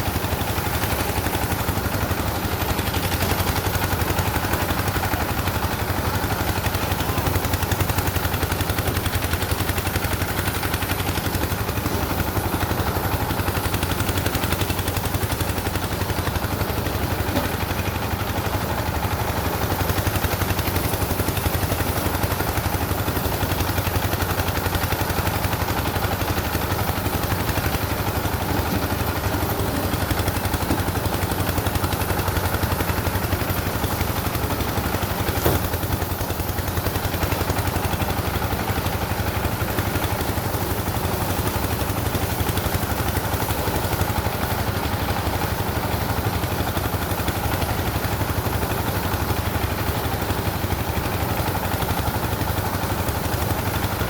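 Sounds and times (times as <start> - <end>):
engine chugging steadily: 0.0 - 54.0.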